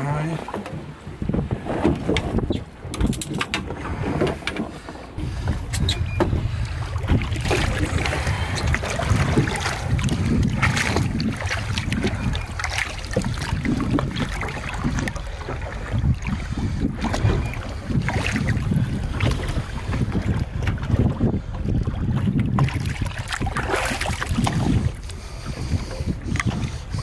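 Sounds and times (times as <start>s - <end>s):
water splashing against boat hull: 0.0s - 27.0s
wind rumble on microphone: 0.0s - 27.0s.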